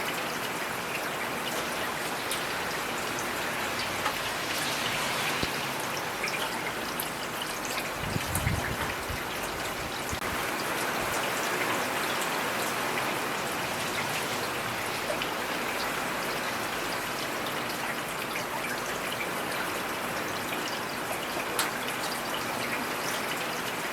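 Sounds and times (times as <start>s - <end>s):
heavy rain falling: 0.0s - 23.9s
raindrops ticking on a surface: 0.0s - 23.9s.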